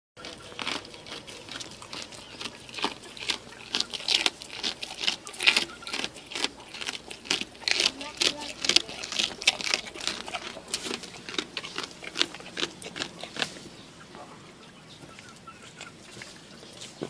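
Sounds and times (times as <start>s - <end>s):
goat crunching and chewing: 0.2s - 17.0s.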